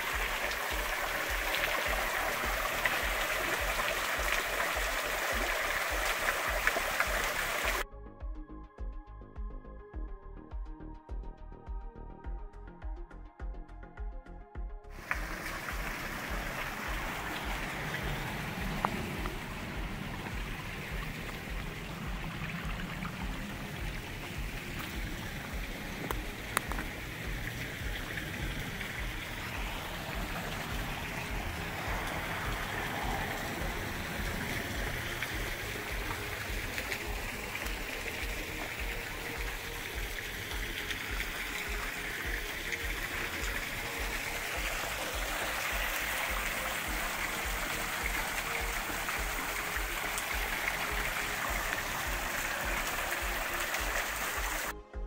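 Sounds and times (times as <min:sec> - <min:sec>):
waterfall splashing on rock: 0:00.0 - 0:07.8, 0:15.0 - 0:54.7.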